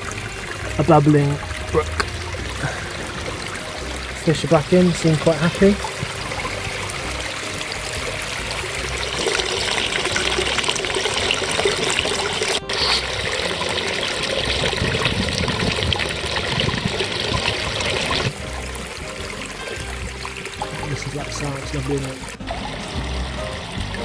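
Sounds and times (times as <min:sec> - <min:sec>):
water trickling into a pond: 0:00.0 - 0:24.0.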